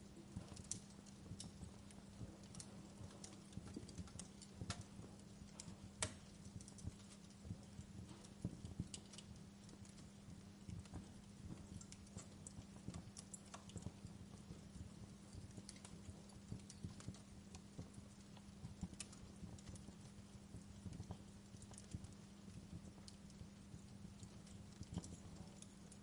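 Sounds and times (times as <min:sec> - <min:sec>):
low steady hum: 0:00.0 - 0:26.0
wood fire crackling: 0:00.0 - 0:26.0.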